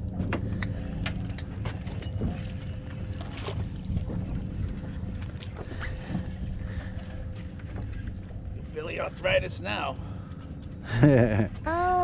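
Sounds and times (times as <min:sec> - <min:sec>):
wind and water rumble: 0:00.0 - 0:10.8.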